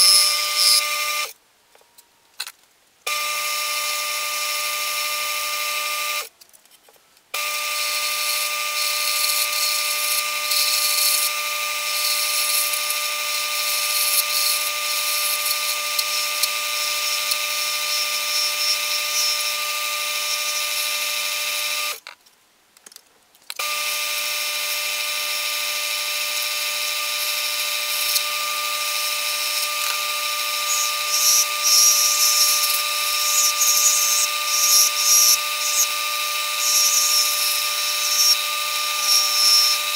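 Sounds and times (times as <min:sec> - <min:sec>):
lathe motor whine: 0:00.0 - 0:01.3, 0:03.1 - 0:06.3, 0:07.4 - 0:22.0, 0:23.6 - 0:39.9
turning tool cutting hiss: 0:00.0 - 0:01.4, 0:07.4 - 0:22.0, 0:23.6 - 0:39.9.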